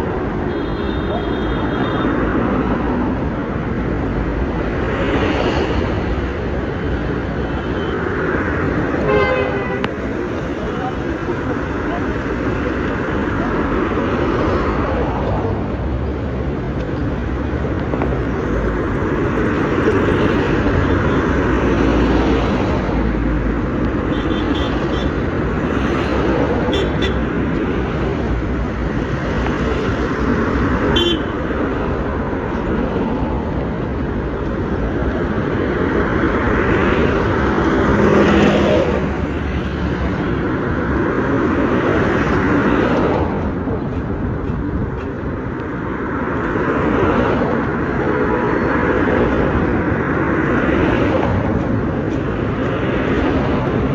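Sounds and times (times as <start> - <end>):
road traffic noise: 0.0 - 53.9.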